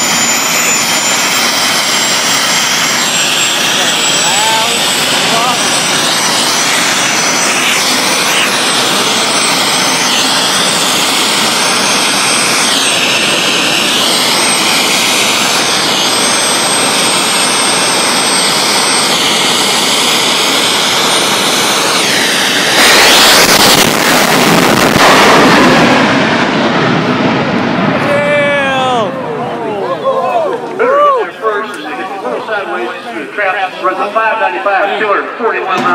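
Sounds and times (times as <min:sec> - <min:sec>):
jet turbine engine roaring: 0:00.0 - 0:35.9.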